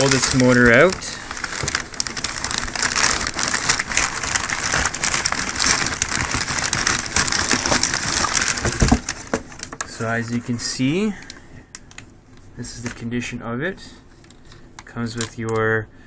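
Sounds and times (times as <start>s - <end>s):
packaging rustling and crinkling: 0.0s - 13.1s, 14.1s - 15.7s.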